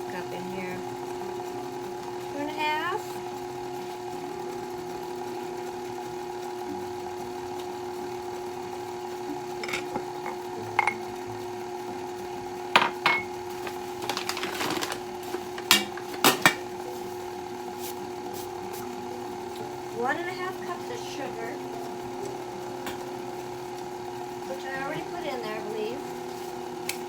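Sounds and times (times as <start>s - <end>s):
electric mixer running: 0.0s - 27.0s.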